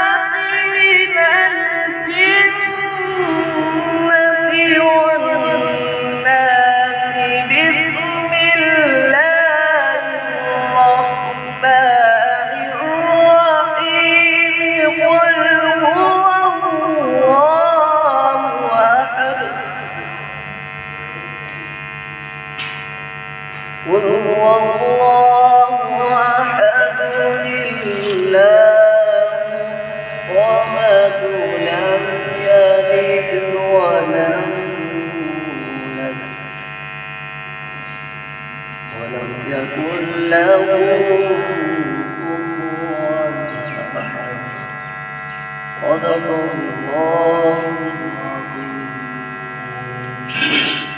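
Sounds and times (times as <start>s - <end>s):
man chanting into microphone: 0.0s - 20.4s, 23.7s - 37.1s, 38.7s - 50.9s.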